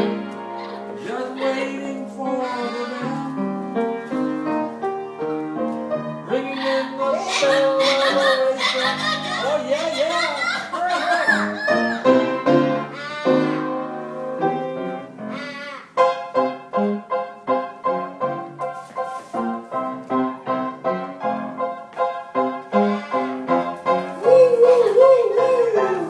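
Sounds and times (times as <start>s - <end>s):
piano playing chords: 0.0s - 10.3s, 11.1s - 26.0s.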